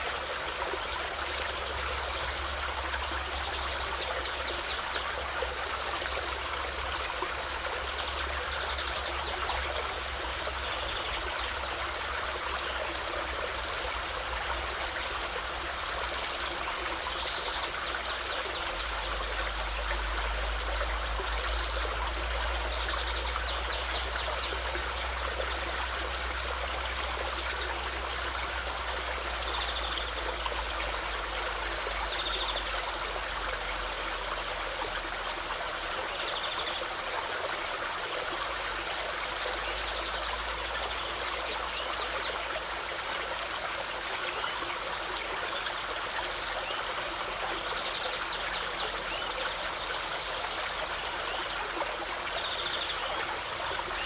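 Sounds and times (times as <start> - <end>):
river flowing: 0.0 - 54.0.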